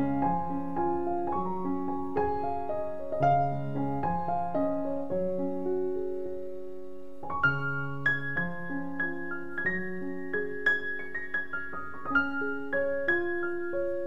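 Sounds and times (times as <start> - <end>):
slow solo piano music: 0.0 - 14.0.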